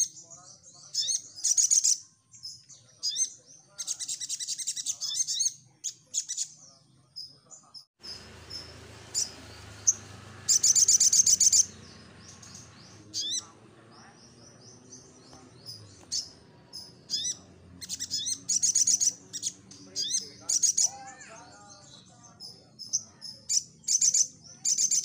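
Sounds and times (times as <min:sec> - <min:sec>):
bird chirping and trilling: 0:00.0 - 0:25.0.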